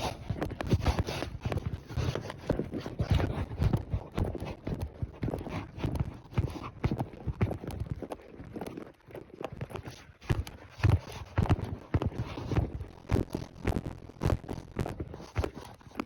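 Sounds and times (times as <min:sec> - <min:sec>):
horse hooves clopping: 0:00.0 - 0:16.0.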